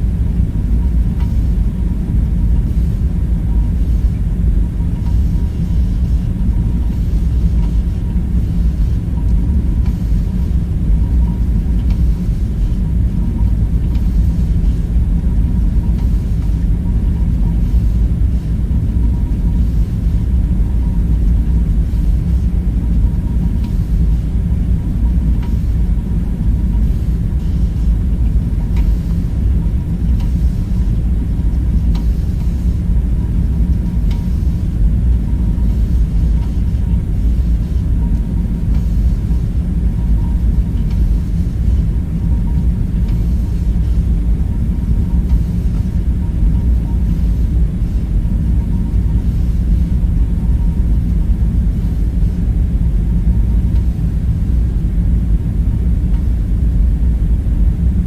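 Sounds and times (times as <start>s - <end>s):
deep rumbling drone: 0.0s - 58.0s.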